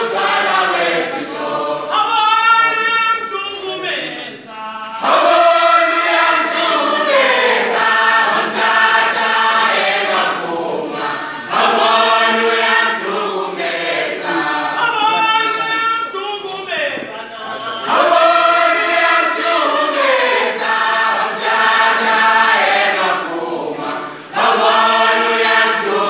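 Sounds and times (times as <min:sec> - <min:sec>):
group singing unaccompanied: 0:00.0 - 0:03.1, 0:03.7 - 0:16.0, 0:17.0 - 0:26.0.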